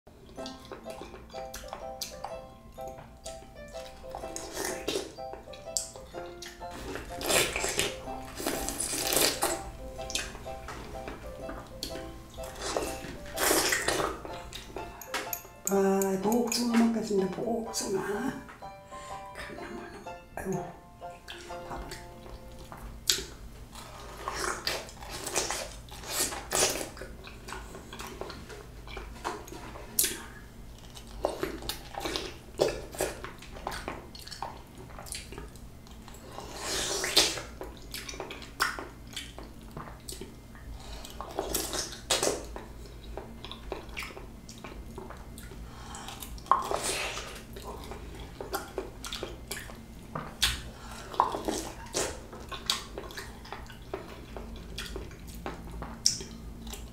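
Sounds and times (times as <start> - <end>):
wet bites and chewing: 3.2 - 11.1, 11.7 - 14.9, 21.2 - 56.9.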